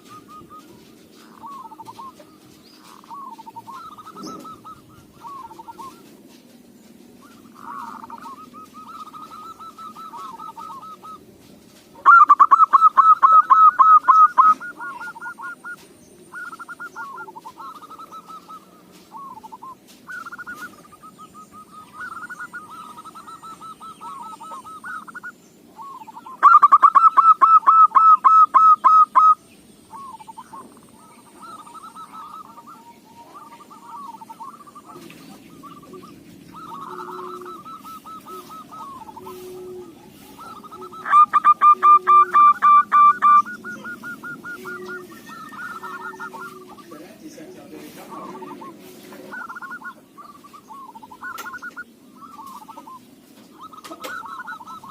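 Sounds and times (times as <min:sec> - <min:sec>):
doves cooing: 0:00.0 - 0:54.9.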